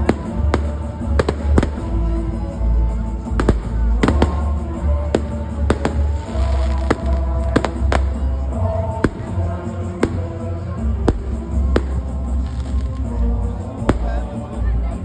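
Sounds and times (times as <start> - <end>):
music playing: 0.0 - 15.0.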